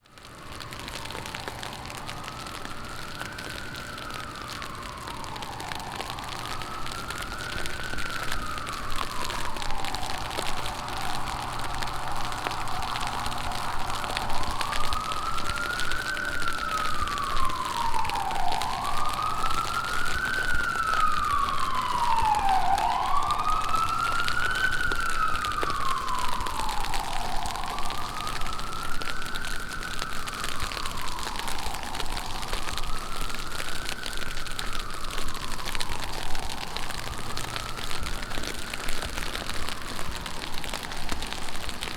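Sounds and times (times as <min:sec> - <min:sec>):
heavy rain hiss: 0:00.0 - 0:41.9
second siren tone: 0:00.1 - 0:41.0
siren wailing: 0:00.1 - 0:41.9.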